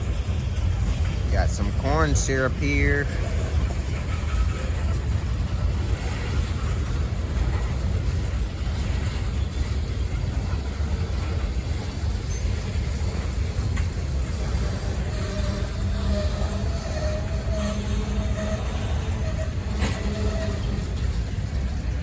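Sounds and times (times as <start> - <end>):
freight train cars rolling: 0.0 - 22.0.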